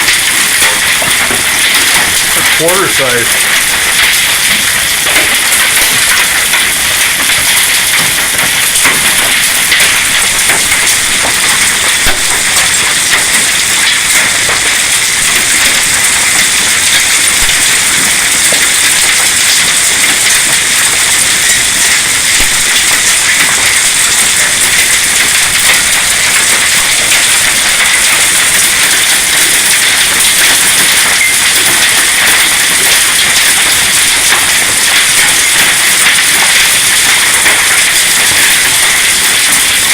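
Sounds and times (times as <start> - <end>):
hail and rain falling: 0.0 - 39.9.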